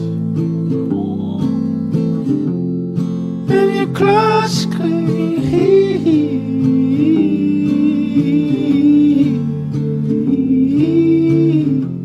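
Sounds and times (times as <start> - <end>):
person singing long gliding notes: 0.0 - 2.3, 3.5 - 12.0
strummed acoustic guitar: 0.0 - 12.0.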